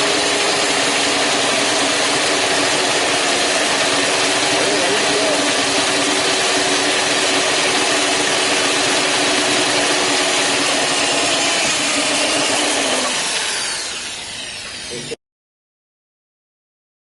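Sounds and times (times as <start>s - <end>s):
electric drill motor running: 0.0s - 15.2s.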